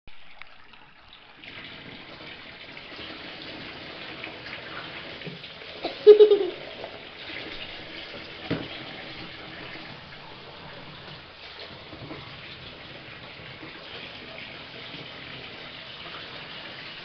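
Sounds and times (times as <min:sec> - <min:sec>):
water running into bathtub: 0:00.1 - 0:17.0.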